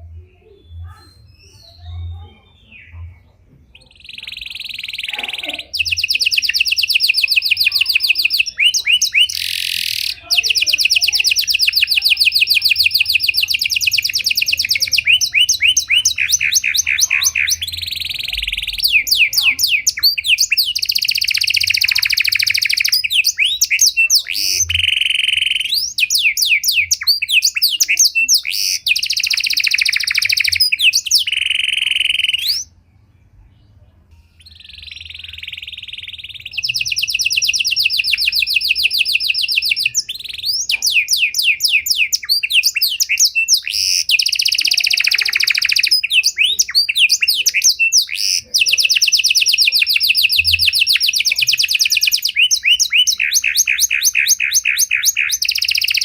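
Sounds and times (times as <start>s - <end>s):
canary singing: 0.0s - 32.9s, 33.6s - 56.0s.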